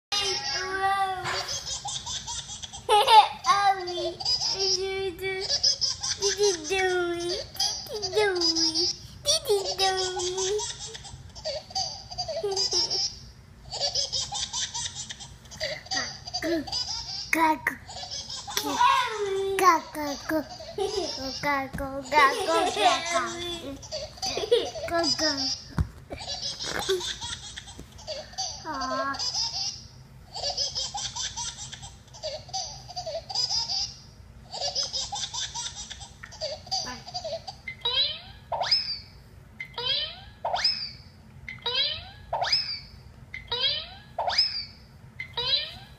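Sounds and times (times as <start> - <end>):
baby laughing: 0.2 - 37.6.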